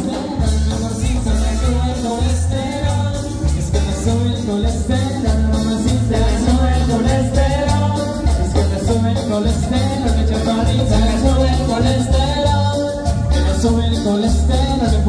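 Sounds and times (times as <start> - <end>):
live latin dance band: 0.0 - 15.0
man singing: 0.0 - 15.0.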